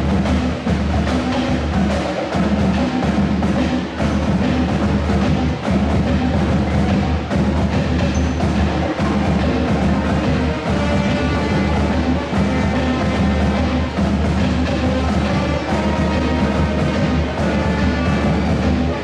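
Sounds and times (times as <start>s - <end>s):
music with loud drums: 0.0s - 19.0s.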